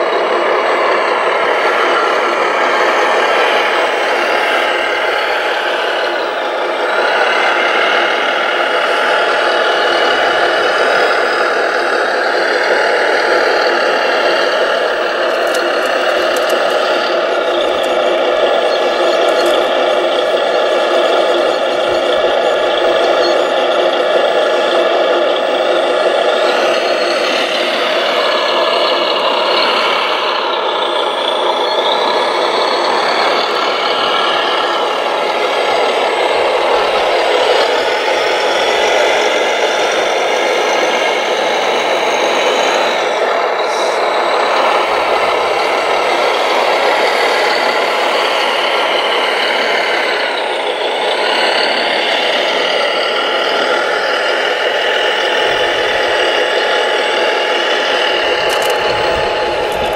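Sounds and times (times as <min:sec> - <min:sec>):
model loader mechanical whine: 0:00.0 - 0:59.9.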